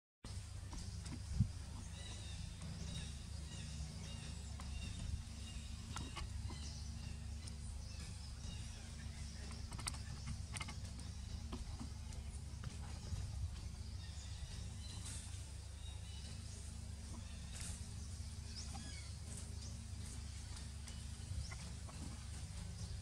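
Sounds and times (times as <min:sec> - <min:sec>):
faint bird chirps: 0:00.3 - 0:23.0
steady low rumble: 0:00.3 - 0:23.0.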